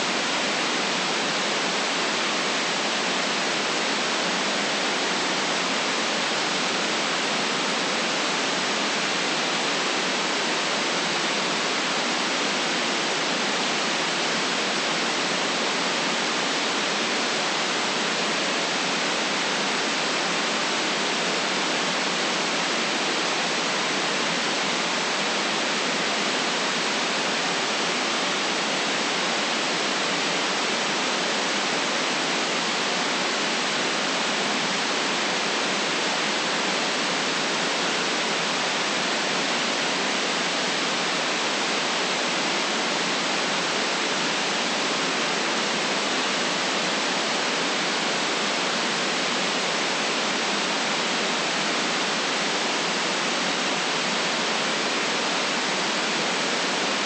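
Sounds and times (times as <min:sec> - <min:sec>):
synthetic white noise hiss: 0:00.0 - 0:57.0.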